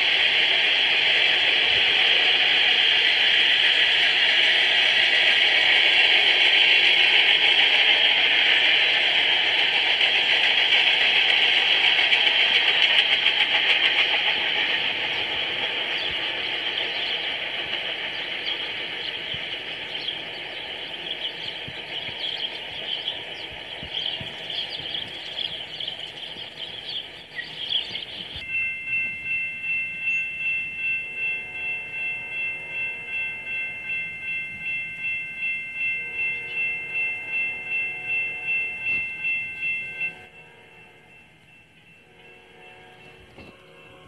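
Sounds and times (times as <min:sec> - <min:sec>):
freight cars rolling on rails: 0:00.0 - 0:44.0
crossing warning bell ringing: 0:04.9 - 0:44.0.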